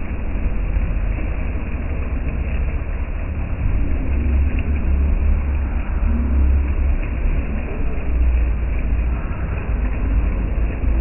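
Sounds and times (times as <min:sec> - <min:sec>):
fountain water rushing: 0:00.0 - 0:11.0
steady low rumble: 0:00.0 - 0:11.0.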